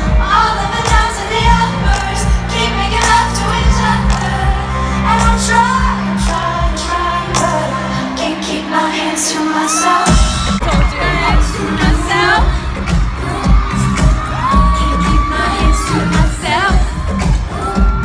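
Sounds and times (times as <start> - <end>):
bass notes and drum beat: 0.0 - 7.7, 10.1 - 18.0
woman singing pop music: 0.0 - 18.0.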